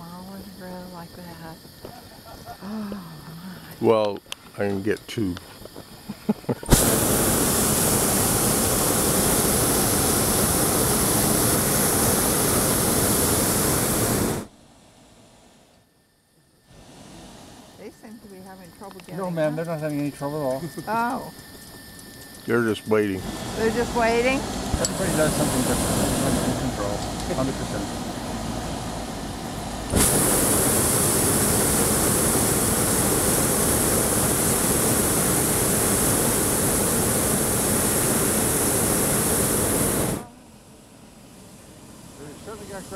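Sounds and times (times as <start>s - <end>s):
propane burner roaring: 0.0s - 42.9s.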